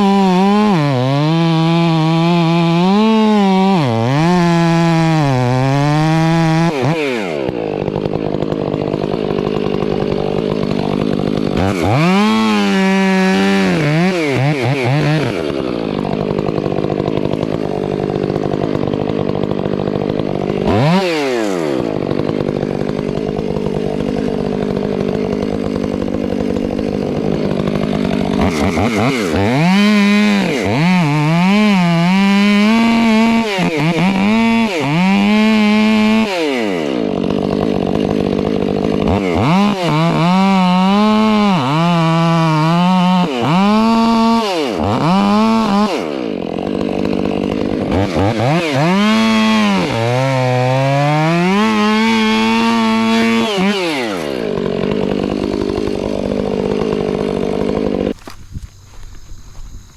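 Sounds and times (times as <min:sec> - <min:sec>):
chainsaw cutting wood: 0:00.0 - 0:59.9
chainsaw idling: 0:00.0 - 0:59.9.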